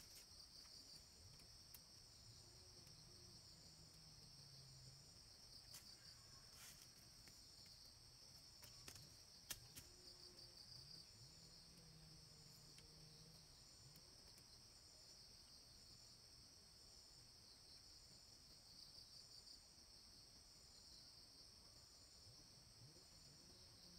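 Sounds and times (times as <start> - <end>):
insects buzzing: 0.0 - 19.9.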